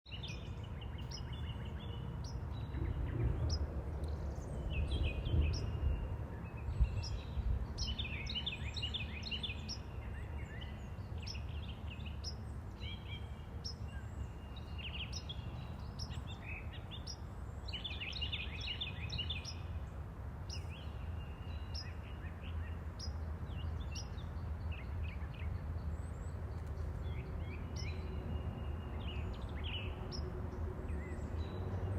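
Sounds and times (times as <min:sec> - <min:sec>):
birds chirping and trilling: 0:00.1 - 0:31.9.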